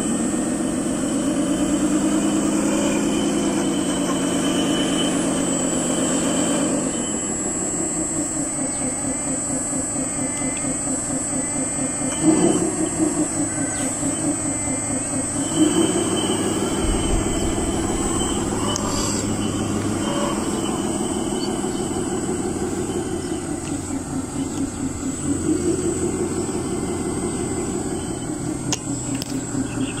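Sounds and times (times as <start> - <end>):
wheel loader mechanical drone: 0.0 - 30.0.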